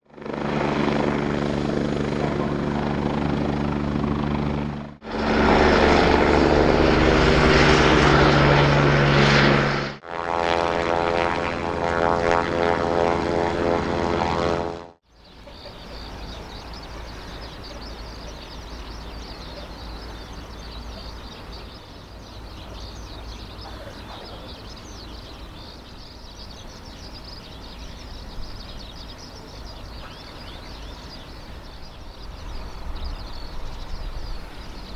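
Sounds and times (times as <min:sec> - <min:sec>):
helicopter engines and rotor: 0:00.0 - 0:34.9.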